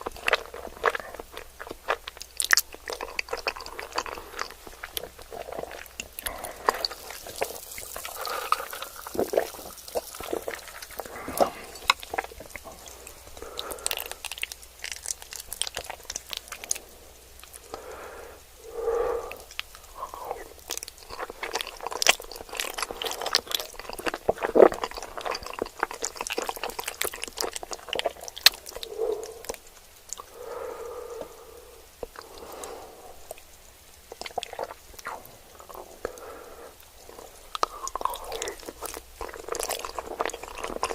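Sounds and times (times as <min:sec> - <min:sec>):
chewing and crunching: 0:00.0 - 0:40.9
wet mouth sounds: 0:00.0 - 0:40.9.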